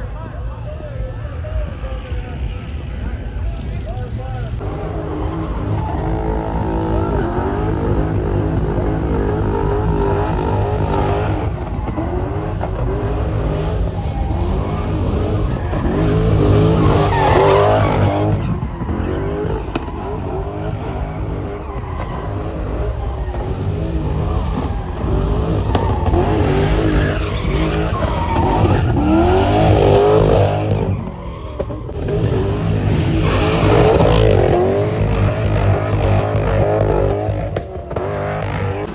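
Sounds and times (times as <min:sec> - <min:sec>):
engines revving hard: 0:04.4 - 0:38.9
tyres squealing: 0:04.6 - 0:38.9.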